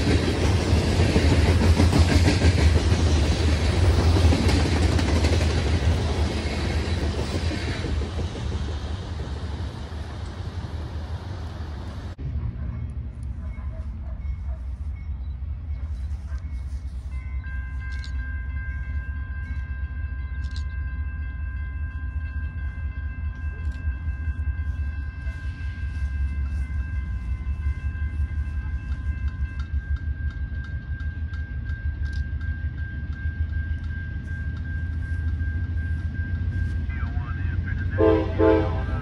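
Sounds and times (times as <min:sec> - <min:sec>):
distant train rumble: 0:00.0 - 0:39.0.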